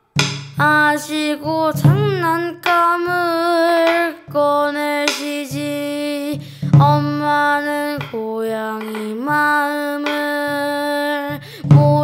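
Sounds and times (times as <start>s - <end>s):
high voice singing: 0.6s - 12.0s.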